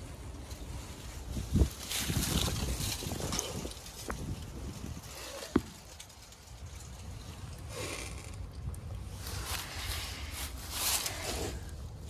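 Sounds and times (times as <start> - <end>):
dry leaves rustling and crunching: 0.0 - 7.5, 9.1 - 12.0.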